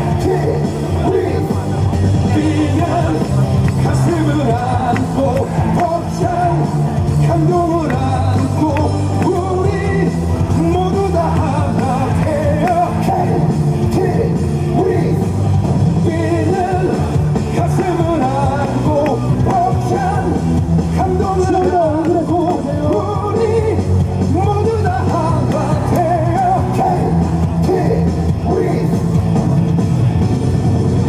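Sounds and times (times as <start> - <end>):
pop-rock music with singing: 0.0 - 31.0.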